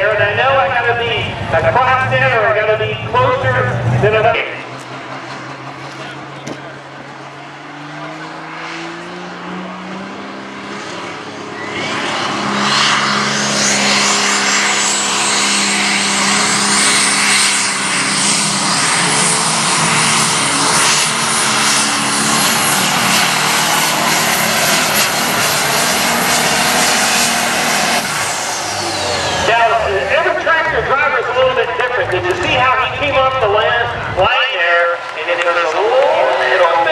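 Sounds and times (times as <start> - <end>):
diesel tractor engine revving: 0.0 - 36.9
high turbo whine: 0.0 - 36.9.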